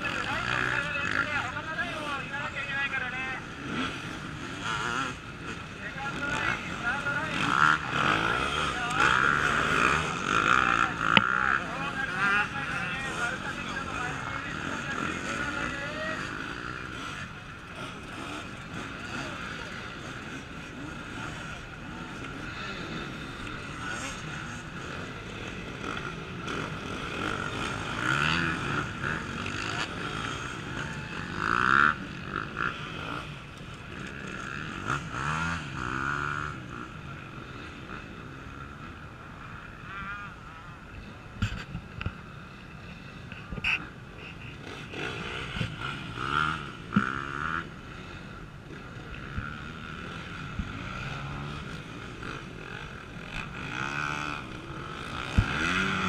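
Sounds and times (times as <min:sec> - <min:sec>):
motorcycles revving: 0:00.0 - 0:56.0.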